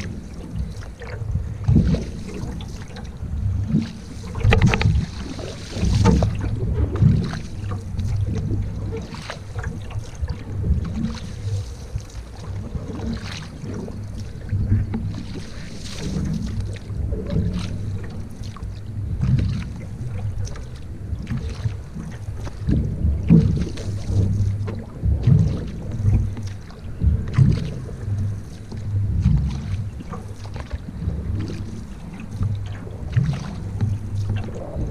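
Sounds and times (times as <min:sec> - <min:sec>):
water splashing around canoe paddle: 0:00.0 - 0:34.9.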